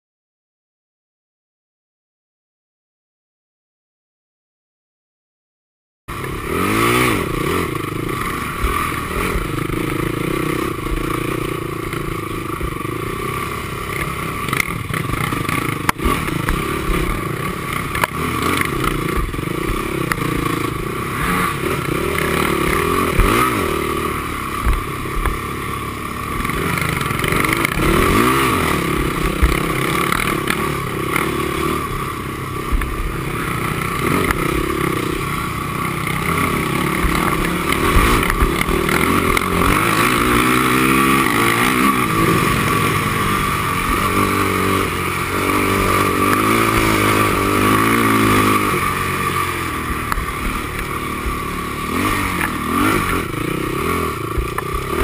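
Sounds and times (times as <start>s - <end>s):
quad engine revving: 6.1s - 55.0s
chassis clattering over rough ground: 7.8s - 55.0s.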